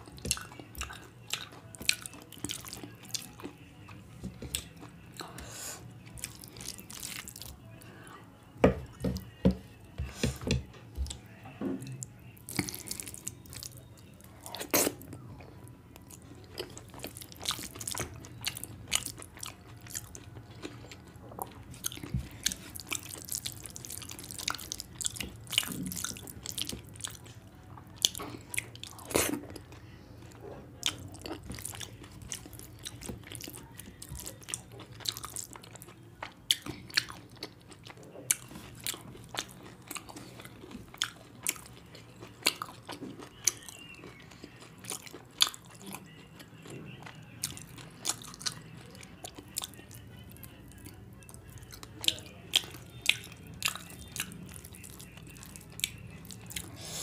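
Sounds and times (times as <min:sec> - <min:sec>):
chewing and mouth smacks: 0:00.0 - 0:05.4, 0:11.9 - 0:15.2, 0:16.0 - 0:57.0.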